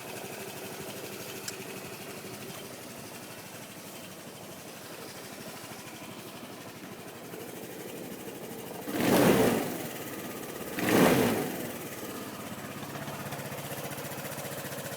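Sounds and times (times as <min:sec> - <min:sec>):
scooter engine idling and revving: 0:00.0 - 0:14.9.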